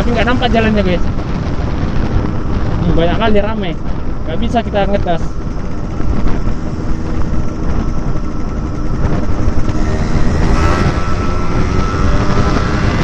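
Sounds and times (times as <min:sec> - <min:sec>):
raspy two-stroke motorcycle engine: 0:00.0 - 0:13.0.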